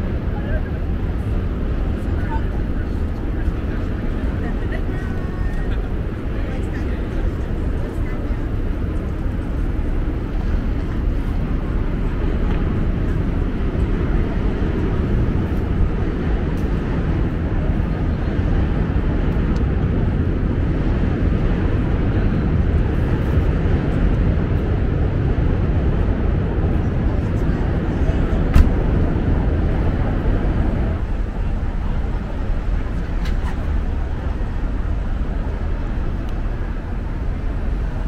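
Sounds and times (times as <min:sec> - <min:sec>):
low rumble of traffic: 0:00.0 - 0:38.0.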